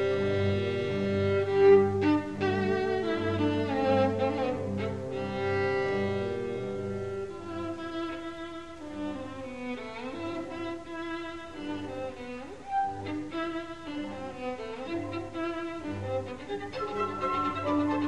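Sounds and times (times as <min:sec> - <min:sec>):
bowed strings playing: 0:00.0 - 0:18.0.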